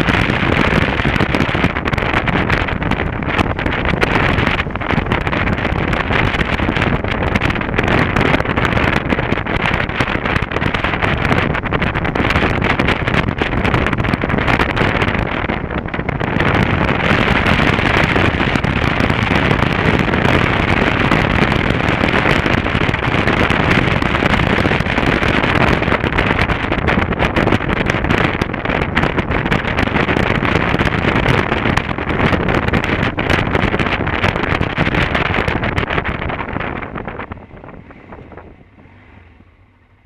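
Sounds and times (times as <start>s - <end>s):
rapid crackling: 0.0s - 38.8s
motorcycle engine running: 0.0s - 40.0s
wind rushing over microphone: 0.0s - 40.0s.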